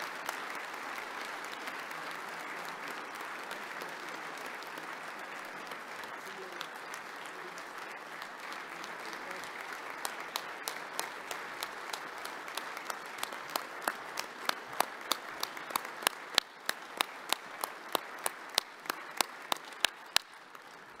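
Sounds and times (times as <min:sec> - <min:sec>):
close hands clapping: 0:00.0 - 0:21.0
crowd applauding: 0:00.0 - 0:21.0.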